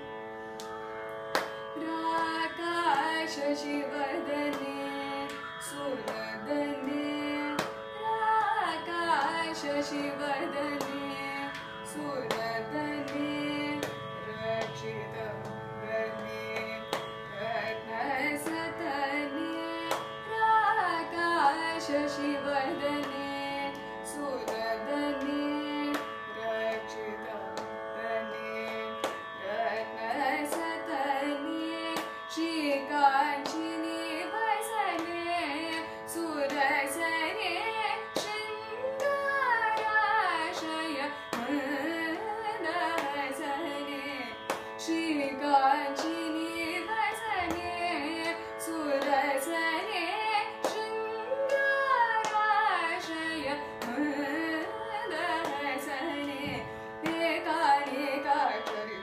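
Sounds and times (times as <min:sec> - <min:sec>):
woman singing: 0:01.7 - 0:59.0.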